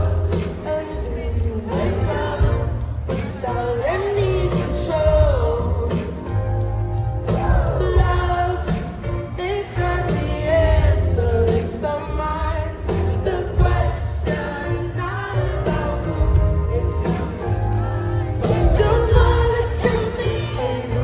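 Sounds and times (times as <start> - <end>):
drums: 0.0 - 21.0
woman singing: 0.0 - 21.0.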